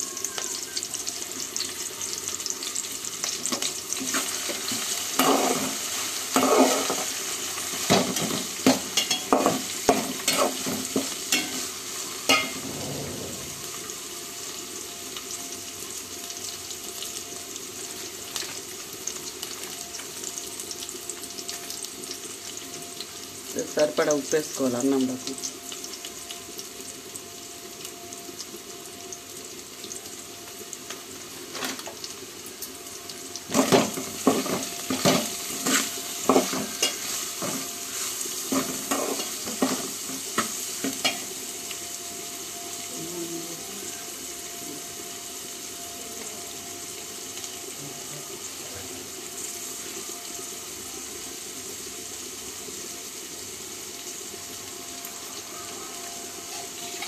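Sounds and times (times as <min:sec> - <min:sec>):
spices sizzling in oil: 0:00.0 - 0:57.0.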